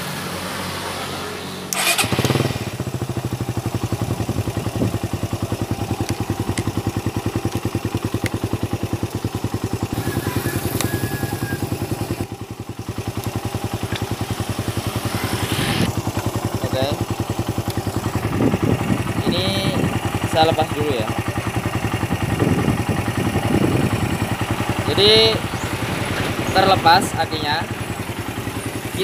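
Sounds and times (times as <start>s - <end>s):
motorcycle engine starting and idling: 0.2s - 29.0s.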